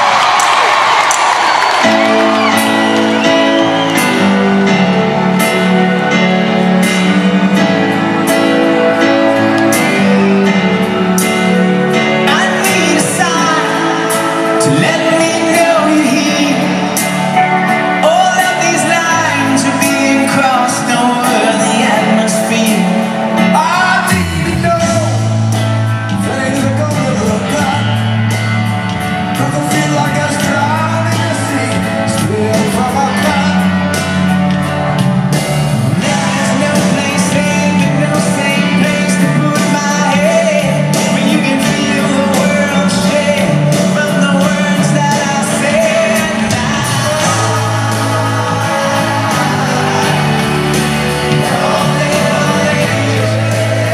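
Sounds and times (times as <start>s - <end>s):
lead vocals singing: 0.0s - 25.3s, 35.8s - 53.9s
bass line: 0.0s - 53.9s
live rock band playing: 0.0s - 53.9s.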